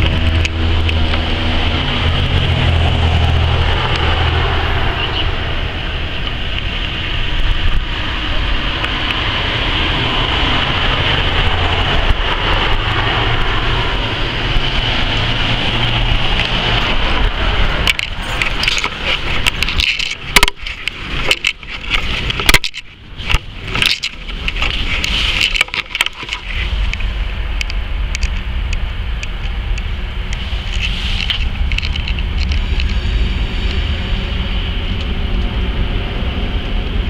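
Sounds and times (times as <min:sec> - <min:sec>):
street traffic: 0:00.0 - 0:37.0.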